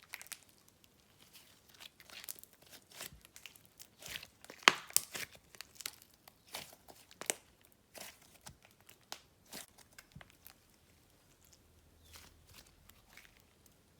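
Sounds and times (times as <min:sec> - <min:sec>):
slime squished by hand: 0:00.0 - 0:13.9.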